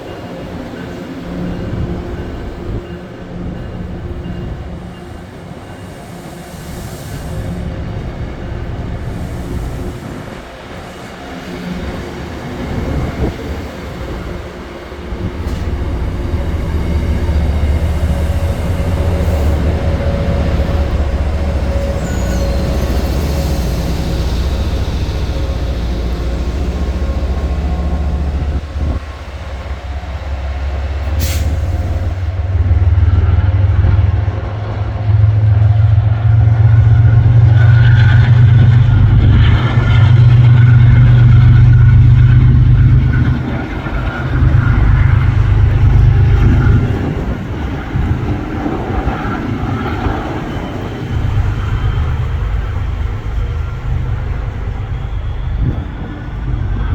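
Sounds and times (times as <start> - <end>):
diesel locomotive engine rumble: 0.0 - 56.9
train wheels on rails: 0.0 - 56.9.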